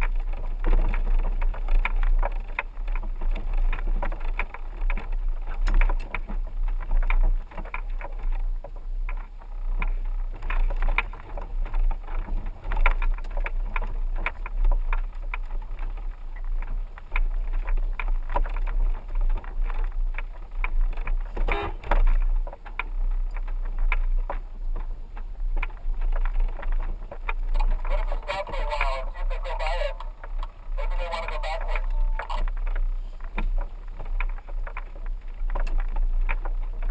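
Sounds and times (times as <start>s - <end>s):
knocks and rattles from bumpy ride: 0.0s - 36.9s
vehicle engine rumble: 0.0s - 36.9s.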